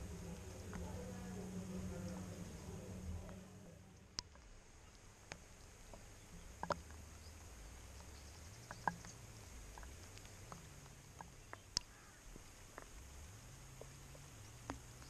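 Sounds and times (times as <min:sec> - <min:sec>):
faint low rumble: 0:00.0 - 0:15.0
raindrops plinking into puddle: 0:00.0 - 0:15.0.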